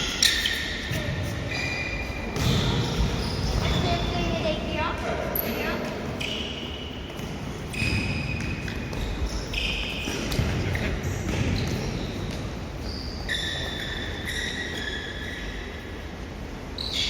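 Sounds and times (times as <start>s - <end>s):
shoes squeaking on floor: 0.0s - 4.6s, 5.4s - 15.8s.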